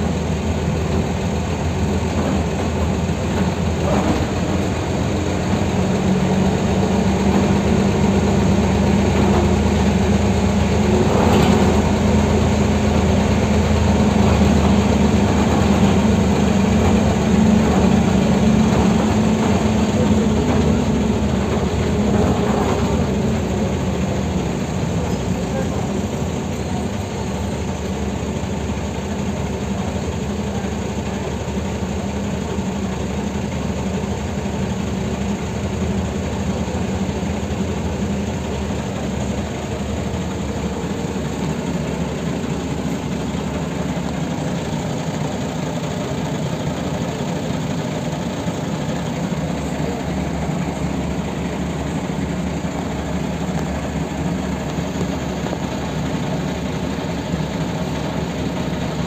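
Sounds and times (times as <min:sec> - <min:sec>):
bus cabin noise: 0:00.0 - 0:59.0
bus diesel engine running: 0:00.0 - 0:59.0.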